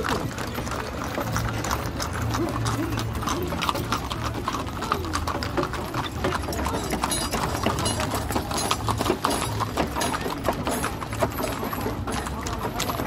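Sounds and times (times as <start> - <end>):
carts rumbling: 0.0 - 13.0
hooves clip-clopping on asphalt: 0.0 - 13.0.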